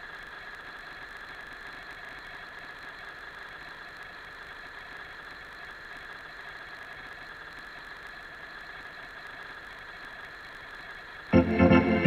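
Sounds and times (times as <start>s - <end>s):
mechanical hum with high whine: 0.0s - 11.4s.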